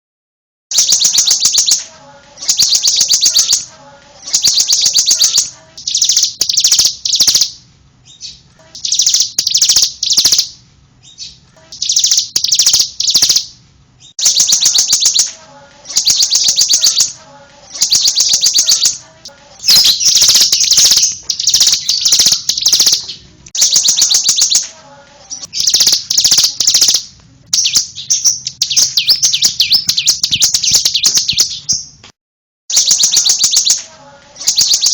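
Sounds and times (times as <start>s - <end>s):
bird rapid high chirping: 0.7s - 32.0s, 32.7s - 34.9s.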